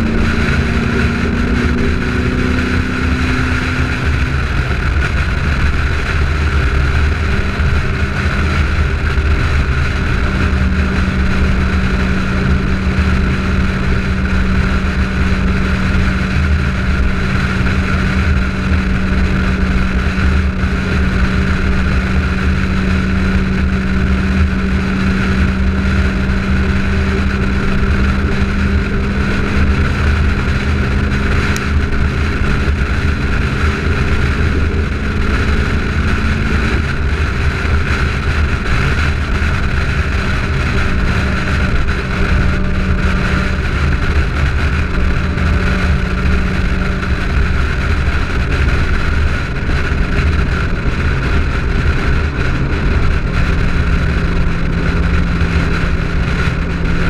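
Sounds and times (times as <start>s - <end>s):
car engine cruising: 0.0s - 57.0s
road and wind noise: 0.0s - 57.0s.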